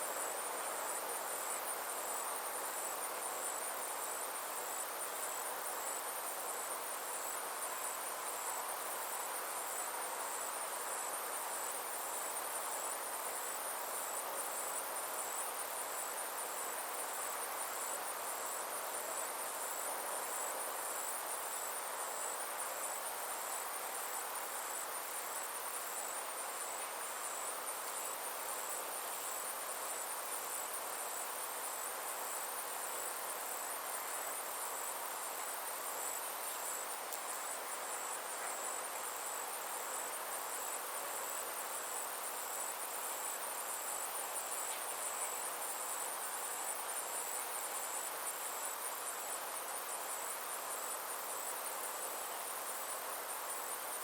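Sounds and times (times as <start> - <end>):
insects trilling: 0.0 - 54.0
soft even hiss: 0.0 - 54.0.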